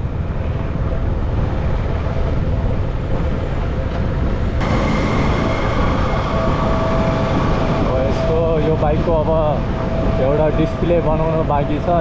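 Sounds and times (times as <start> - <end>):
wind rumble on microphone: 0.0 - 12.0
steady tones: 0.7 - 12.0.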